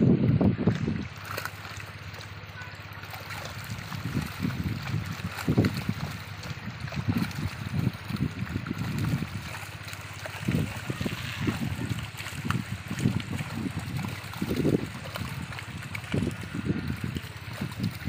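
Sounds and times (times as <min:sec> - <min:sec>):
wind rumble on microphone: 0:00.0 - 0:18.0
water splashing from wriggling fish: 0:00.2 - 0:18.0.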